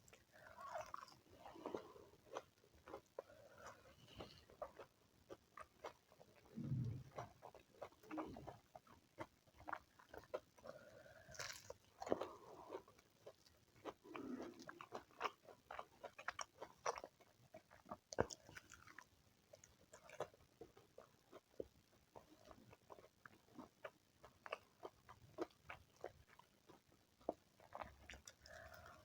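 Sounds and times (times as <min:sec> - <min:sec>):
person chewing and biting food: 0:00.1 - 0:21.6, 0:22.4 - 0:29.0.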